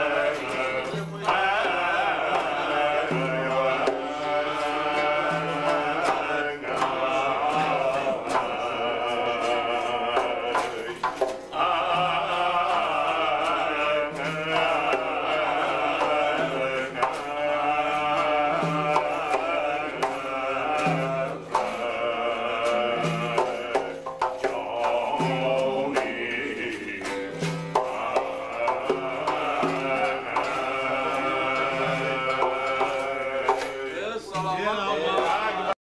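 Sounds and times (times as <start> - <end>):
frame drum beating: 0.0 - 35.8
man singing: 0.0 - 35.8
plucked lutes: 0.0 - 35.8.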